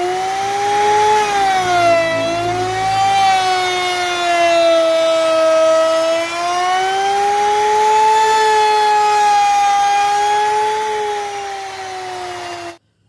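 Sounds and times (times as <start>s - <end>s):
power tool motor whine: 0.0s - 12.8s
wood cutting hiss: 0.0s - 12.8s.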